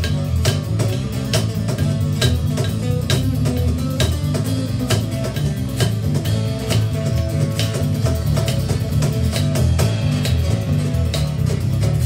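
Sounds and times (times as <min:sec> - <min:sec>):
cajon beat: 0:00.0 - 0:12.0
electric bass: 0:00.0 - 0:12.0.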